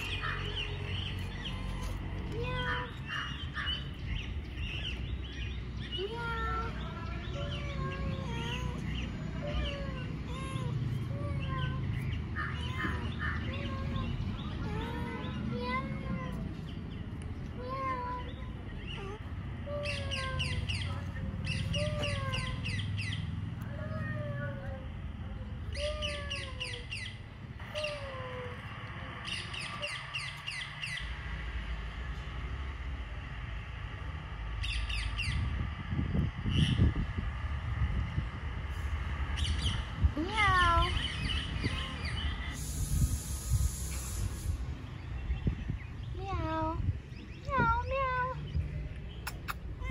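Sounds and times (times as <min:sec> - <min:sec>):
birds chirping and whistling: 0:00.0 - 0:23.4, 0:25.7 - 0:31.2, 0:34.6 - 0:35.6, 0:36.4 - 0:37.1, 0:38.7 - 0:49.9
steady low rumble: 0:00.0 - 0:49.9.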